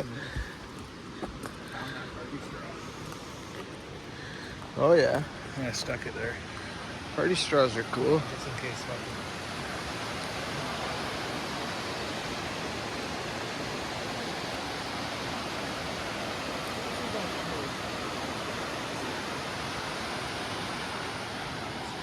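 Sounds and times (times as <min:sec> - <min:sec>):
rush of flowing water: 0:00.0 - 0:22.0.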